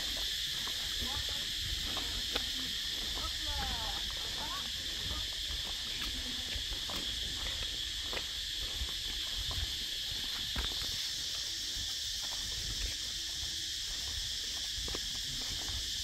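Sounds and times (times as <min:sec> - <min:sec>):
footsteps on dirt path: 0:00.0 - 0:16.0
insects chorus: 0:00.0 - 0:16.0.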